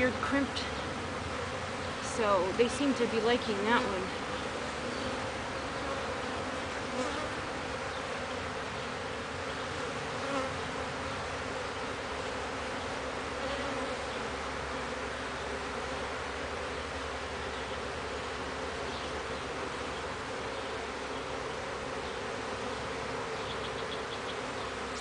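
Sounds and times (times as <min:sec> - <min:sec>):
single bee humming close by: 0:00.0 - 0:25.0
swarm of bees buzzing: 0:00.0 - 0:25.0.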